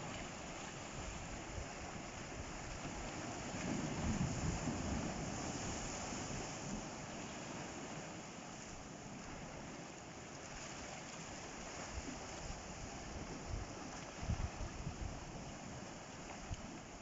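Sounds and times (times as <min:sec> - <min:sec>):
waves washing on rocky shore: 0:00.0 - 0:17.0.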